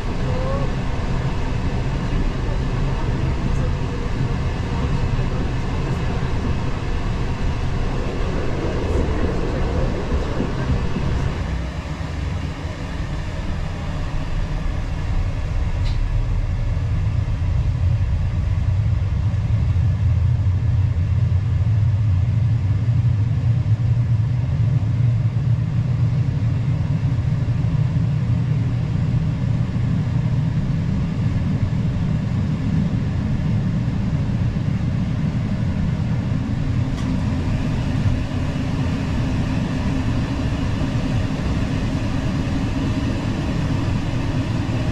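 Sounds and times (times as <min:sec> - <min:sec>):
moving train rumble: 0:00.0 - 0:44.9.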